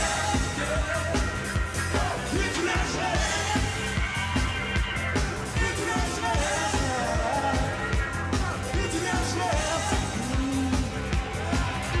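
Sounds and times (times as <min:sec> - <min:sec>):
bass line: 0:00.0 - 0:12.0
live band playing pop-rock: 0:00.0 - 0:12.0
steady drum beat: 0:00.0 - 0:12.0.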